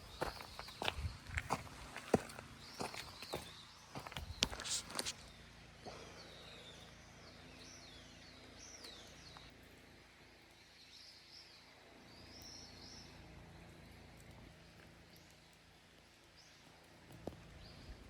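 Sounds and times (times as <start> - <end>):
low outdoor hum: 0.0 - 18.0.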